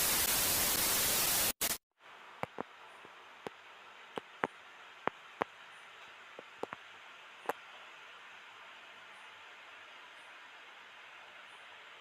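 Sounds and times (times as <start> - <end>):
faint steady hiss: 0.0 - 12.0
loud white noise hiss: 0.0 - 12.0.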